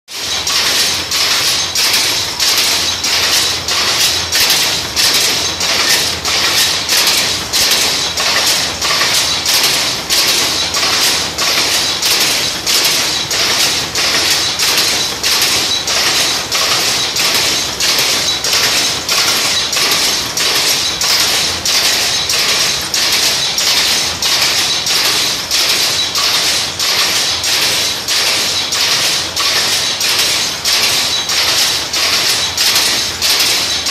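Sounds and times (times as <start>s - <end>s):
power loom clattering: 0.1s - 33.9s.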